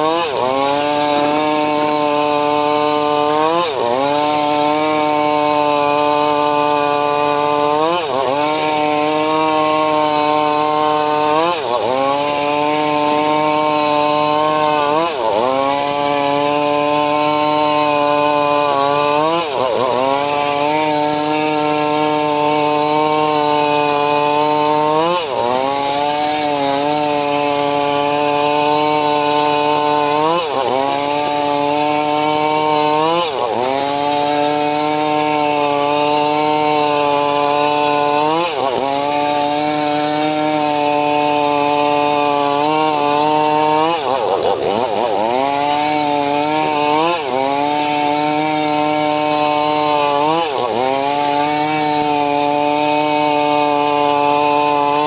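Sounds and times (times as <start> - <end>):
engine-driven saw cutting wood: 0.0 - 55.0.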